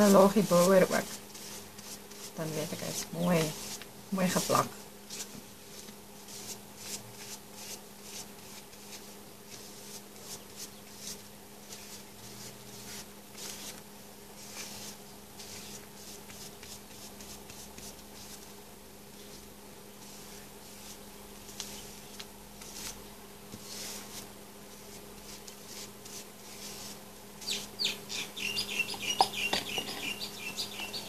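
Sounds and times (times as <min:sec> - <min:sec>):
paintbrush strokes on damp paper: 0:00.0 - 0:27.8
faint steady hum: 0:00.0 - 0:31.0.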